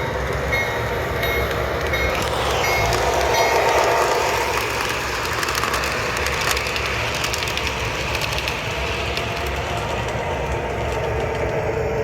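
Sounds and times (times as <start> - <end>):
toy train engine hum: 0.0 - 12.0
wheels clicking on rails: 0.0 - 12.0.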